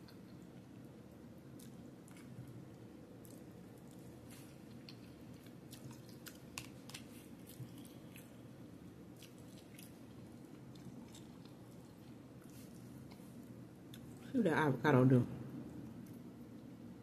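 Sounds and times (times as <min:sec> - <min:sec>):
chewing food: 0:00.0 - 0:14.3
low room hum: 0:00.0 - 0:17.0.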